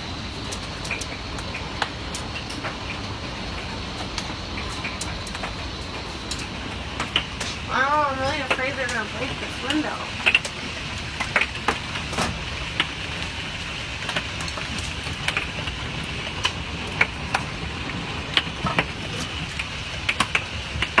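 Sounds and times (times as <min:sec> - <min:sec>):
hailstones striking window: 0:00.0 - 0:21.0
hiss of falling hail and rain: 0:00.0 - 0:21.0.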